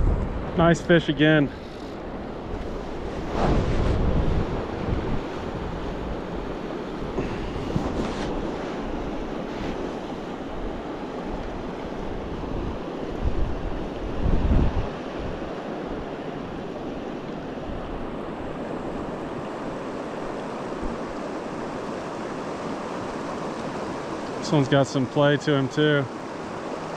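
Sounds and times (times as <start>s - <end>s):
wind buffeting microphone: 0.0s - 24.4s
river water rushing: 0.0s - 26.9s.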